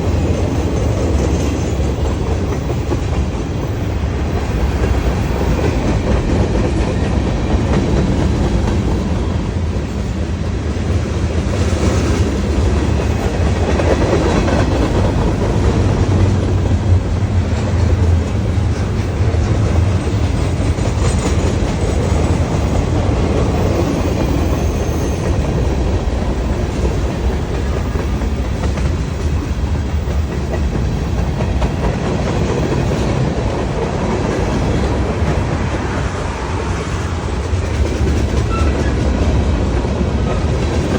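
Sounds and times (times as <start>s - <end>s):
train rumbling past: 0.0s - 40.9s.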